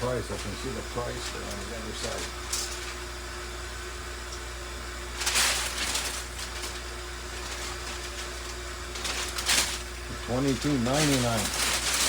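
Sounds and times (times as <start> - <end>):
paper packaging rustling: 0.0 - 3.0, 5.1 - 12.0
low electrical hum: 0.0 - 12.0.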